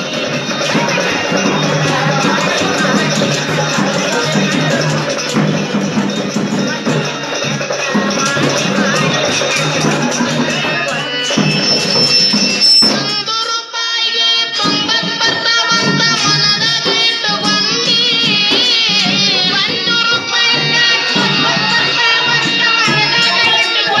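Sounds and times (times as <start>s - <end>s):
drums and instruments: 0.0s - 24.0s
person singing: 0.0s - 24.0s.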